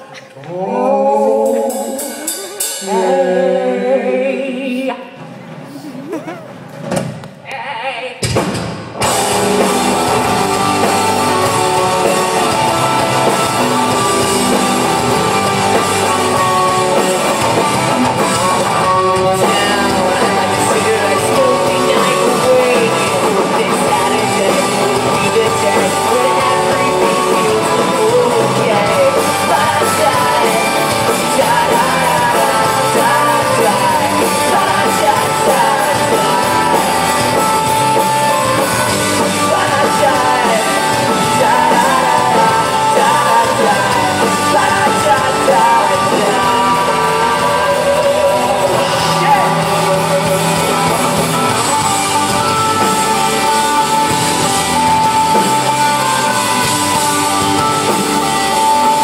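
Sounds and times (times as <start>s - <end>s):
person singing: 0.0s - 6.5s, 9.0s - 59.0s
drum kit: 1.2s - 3.6s, 8.2s - 59.0s
electric guitar: 8.2s - 59.0s.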